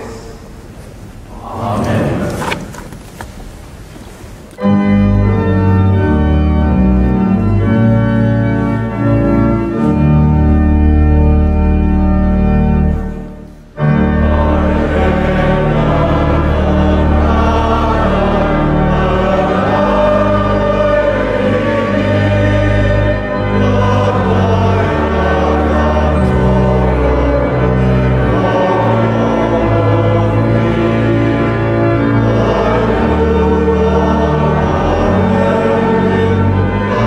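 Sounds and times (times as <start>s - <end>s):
congregation singing a hymn: 1.3s - 2.9s, 4.6s - 37.0s
pipe organ chords: 4.6s - 37.0s.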